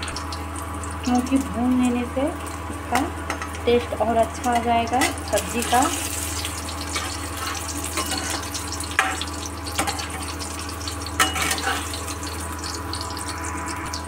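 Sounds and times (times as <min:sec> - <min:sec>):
potatoes sizzling in hot oil: 0:00.0 - 0:14.0.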